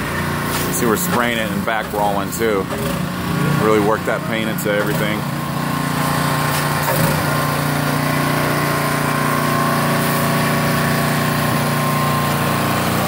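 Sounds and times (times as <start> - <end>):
paint sprayer humming: 0.0 - 13.0.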